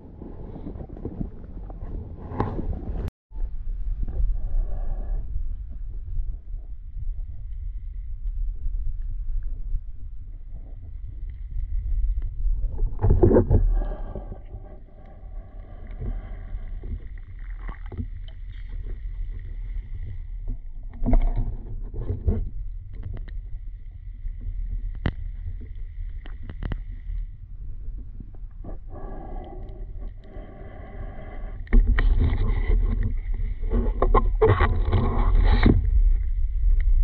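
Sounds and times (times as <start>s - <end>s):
muffled rumble of moving water: 0.0s - 37.0s.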